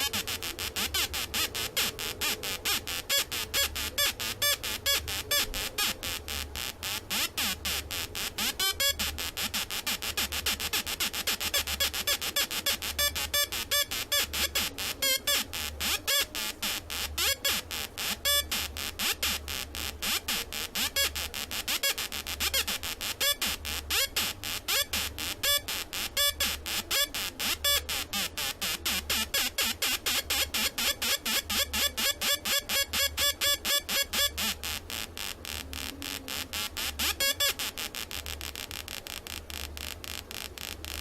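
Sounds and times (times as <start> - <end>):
pulsing electronic buzz: 0.0 - 41.0.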